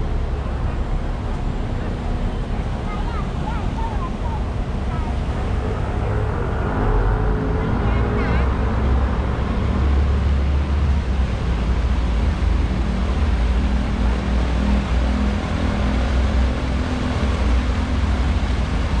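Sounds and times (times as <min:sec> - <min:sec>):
fountain jets splashing: 0:00.0 - 0:19.0
heavy low rumble: 0:00.0 - 0:19.0.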